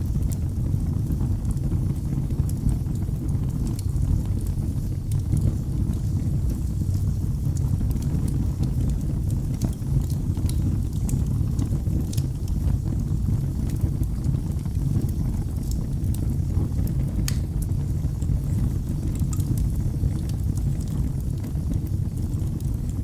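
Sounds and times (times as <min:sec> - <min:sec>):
fire crackles and pops: 0:00.0 - 0:23.0
flames rumbling: 0:00.0 - 0:23.0.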